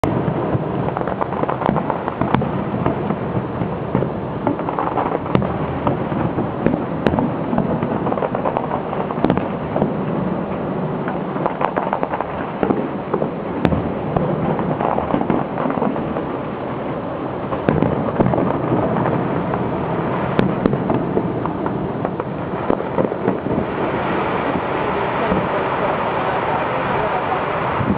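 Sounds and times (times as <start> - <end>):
fireworks crackling: 0.0 - 27.9
loud sharp firework reports: 0.0 - 27.9.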